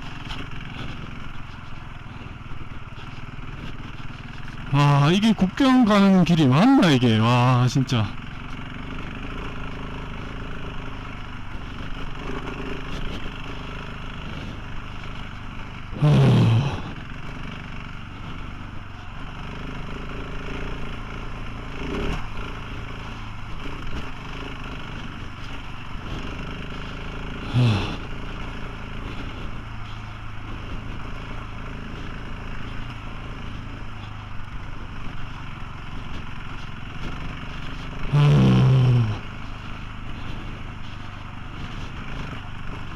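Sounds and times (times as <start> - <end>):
motorcycle engine running: 0.0 - 42.9
road noise: 0.0 - 42.9.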